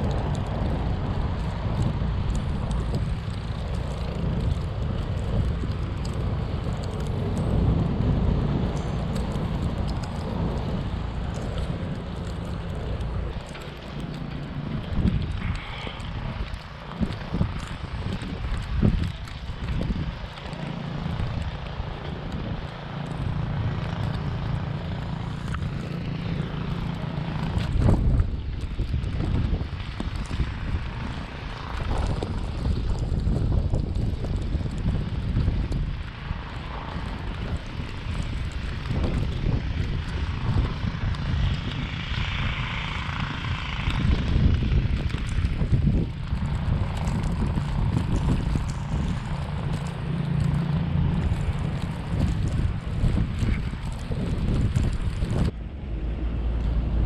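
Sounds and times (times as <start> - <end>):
low engine drone: 0.0 - 57.0
wind buffeting microphone: 0.0 - 57.0.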